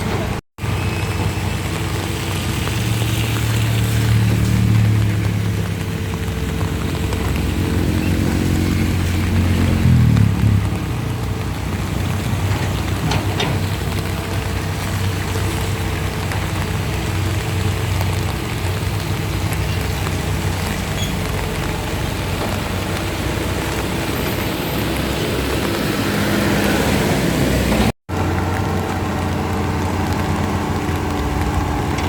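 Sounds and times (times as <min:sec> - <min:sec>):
vehicle engine humming: 0:00.0 - 0:32.0
heavy rain falling: 0:00.1 - 0:32.0.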